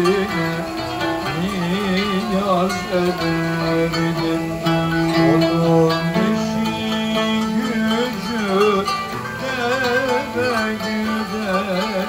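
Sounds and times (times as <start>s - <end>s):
plucked string instrument: 0.0s - 12.0s
wavering melody with vibrato: 0.0s - 12.0s.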